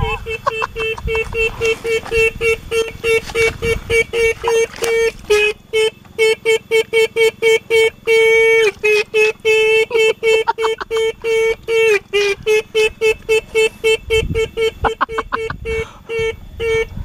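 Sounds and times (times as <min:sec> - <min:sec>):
motorcycle horn beeping: 0:00.0 - 0:17.0.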